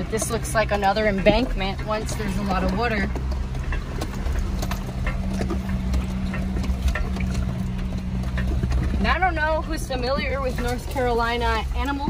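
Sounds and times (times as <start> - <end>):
car engine at low revs: 0.0 - 12.0
light clicks and rattles: 0.0 - 12.0.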